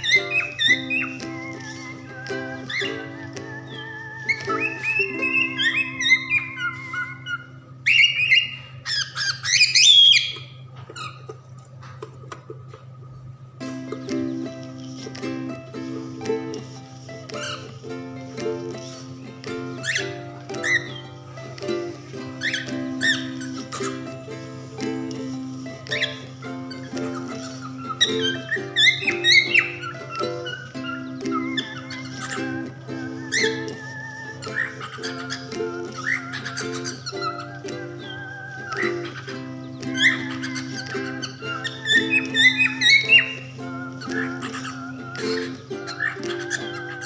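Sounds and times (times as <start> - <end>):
background music with held notes: 0.0 - 9.3, 12.6 - 47.0
cockatiels squawking and chirping: 0.0 - 12.9, 13.9 - 47.0.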